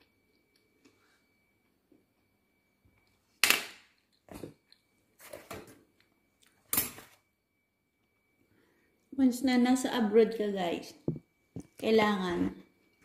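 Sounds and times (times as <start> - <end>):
faint steady high tone: 0.0 - 3.4, 4.0 - 13.0.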